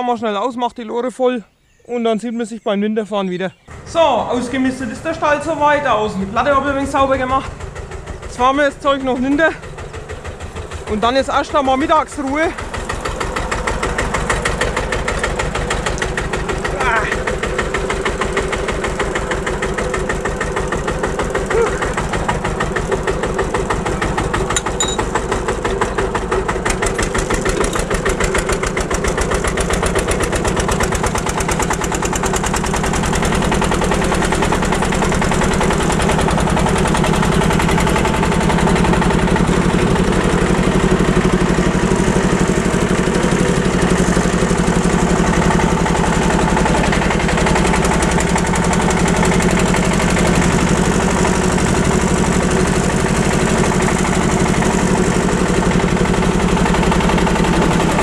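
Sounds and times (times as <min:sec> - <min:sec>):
tractor engine chugging: 0:02.6 - 0:58.0.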